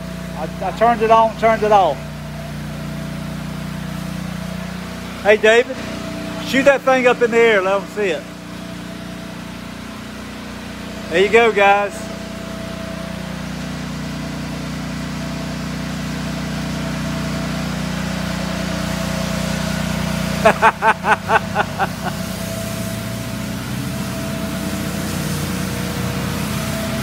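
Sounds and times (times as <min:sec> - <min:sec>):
hose gun spraying: 0:00.0 - 0:27.0
small gasoline engine running: 0:00.0 - 0:27.0.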